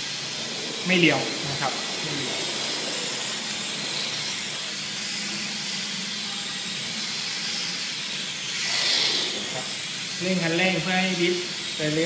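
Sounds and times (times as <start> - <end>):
electric motor whining: 0.0 - 10.0
steady hiss: 0.0 - 12.0.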